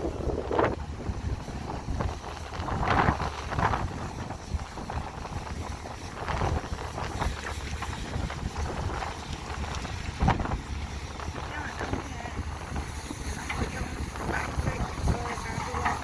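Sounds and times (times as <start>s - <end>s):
diesel engine rumbling: 0.0s - 16.0s
wind buffeting microphone: 0.0s - 16.0s.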